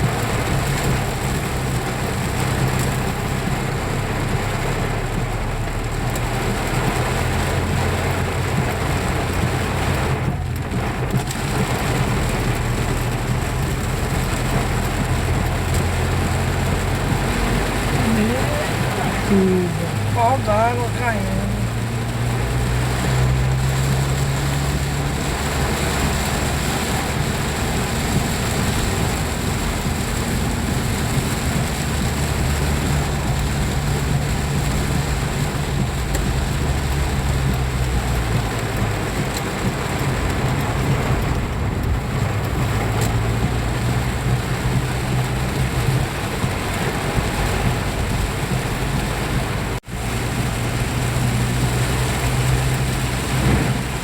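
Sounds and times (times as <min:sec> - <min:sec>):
heavy rain downpour: 0:00.0 - 0:54.0
vehicle engine running: 0:00.0 - 0:54.0.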